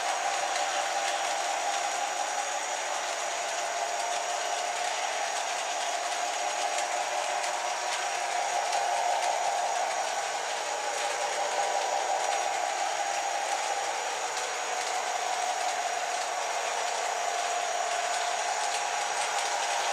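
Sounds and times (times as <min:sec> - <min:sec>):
faint clicks: 0:00.0 - 0:19.9
model train motor whir: 0:00.0 - 0:19.9.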